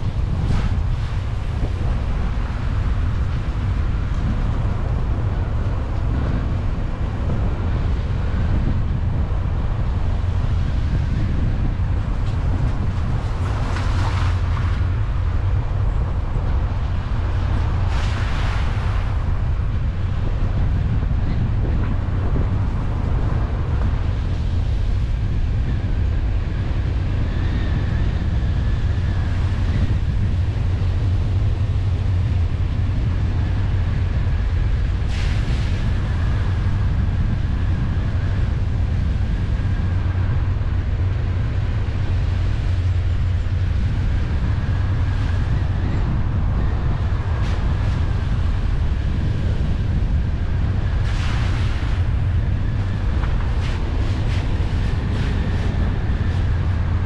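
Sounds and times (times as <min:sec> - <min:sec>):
car engine and road noise: 0:00.0 - 0:57.0
wind on microphone: 0:00.0 - 0:57.0.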